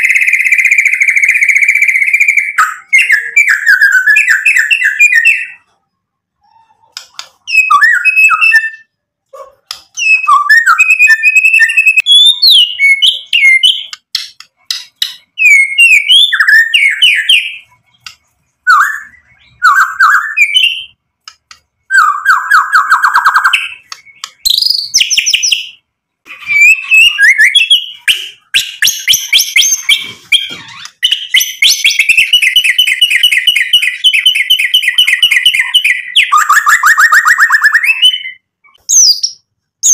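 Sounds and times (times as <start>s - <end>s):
songbird whistling and trilling: 0.0s - 5.8s, 6.4s - 39.9s.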